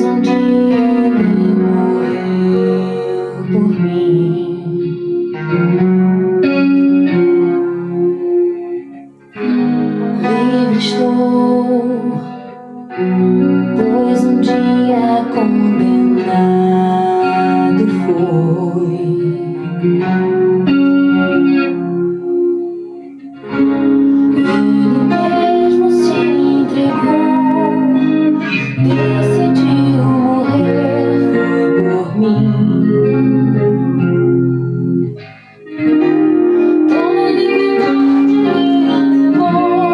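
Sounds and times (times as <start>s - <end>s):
guitar improvising: 0.0s - 39.9s
recorded song with singing: 0.0s - 39.9s.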